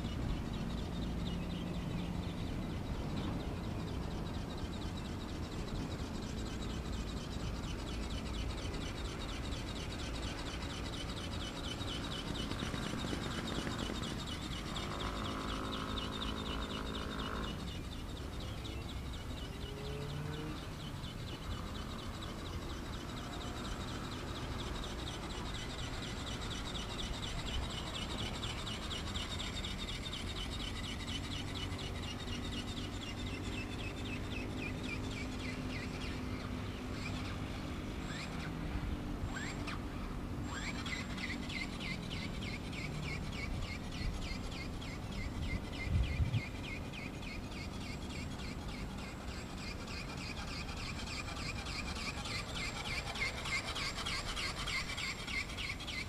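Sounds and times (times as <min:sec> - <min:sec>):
wind rumbling on microphone: 0:00.0 - 0:19.8, 0:20.5 - 0:51.0
distant birds calling: 0:00.0 - 0:56.0
long steady-pitched bird call: 0:00.0 - 0:56.0.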